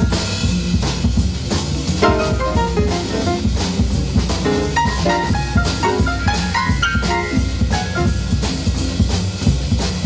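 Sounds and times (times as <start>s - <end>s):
bass line: 0.0s - 10.0s
drum kit keeping time: 0.0s - 10.0s
jazz ensemble playing: 0.0s - 10.0s.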